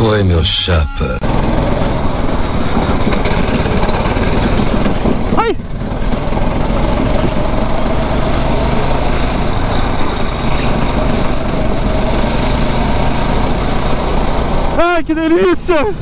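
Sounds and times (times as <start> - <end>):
kart engine running: 1.2 - 16.0.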